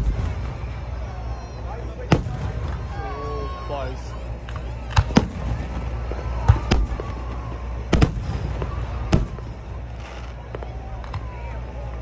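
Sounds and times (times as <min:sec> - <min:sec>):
fireworks bangs: 0:00.0 - 0:12.0
low rumble: 0:00.0 - 0:12.0.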